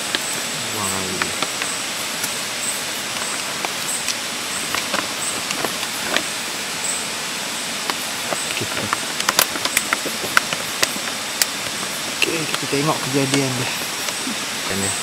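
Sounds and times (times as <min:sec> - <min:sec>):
heater fizzing and crackling: 0:00.0 - 0:15.0.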